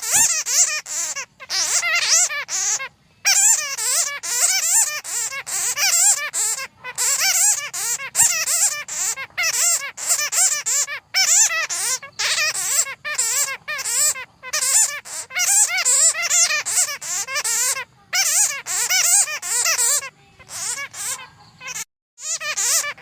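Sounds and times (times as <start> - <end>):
bats chattering: 0.0 - 23.0.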